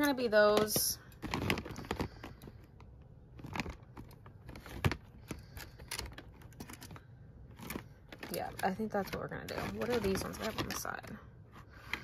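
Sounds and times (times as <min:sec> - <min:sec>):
plastic cases clicking: 0:00.0 - 0:11.1.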